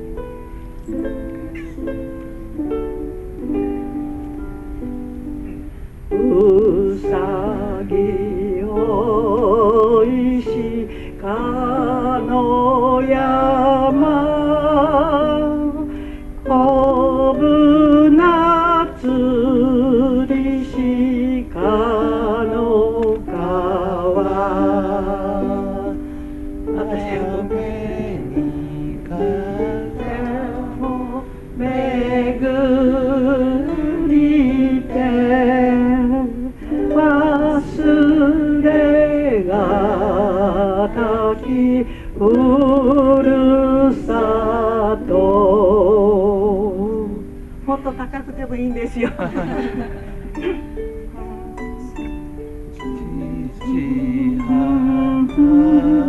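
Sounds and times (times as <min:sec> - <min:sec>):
slow solo melody with vibrato: 0:00.0 - 0:49.0, 0:50.7 - 0:56.0.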